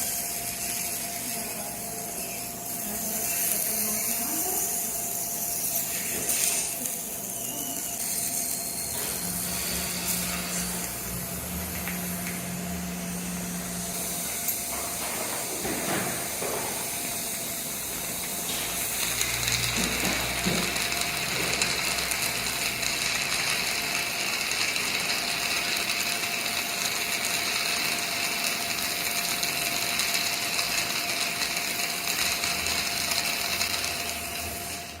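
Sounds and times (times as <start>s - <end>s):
dental drill whining: 0.0s - 35.0s.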